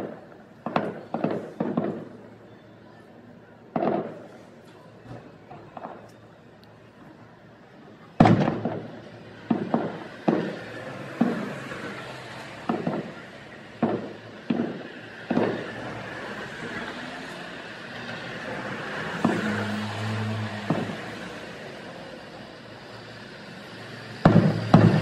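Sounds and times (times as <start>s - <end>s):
fireworks booming: 0.0s - 2.5s, 3.7s - 6.1s, 8.1s - 25.0s.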